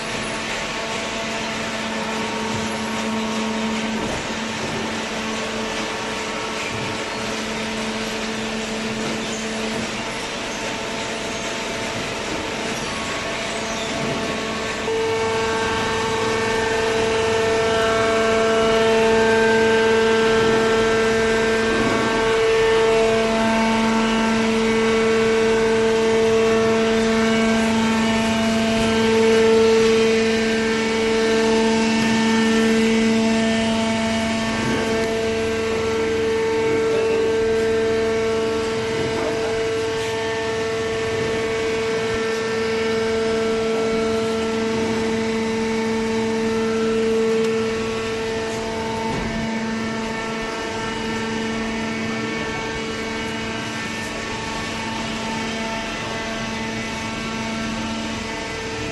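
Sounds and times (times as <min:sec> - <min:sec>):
hydraulic power pack humming: 0:00.0 - 0:58.9.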